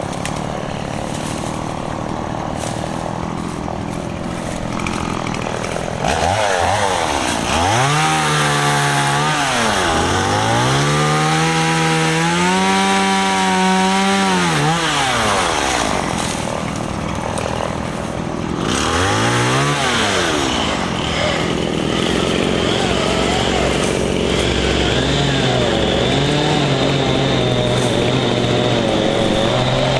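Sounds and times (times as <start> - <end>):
chainsaw revving and idling: 0.0 - 29.9.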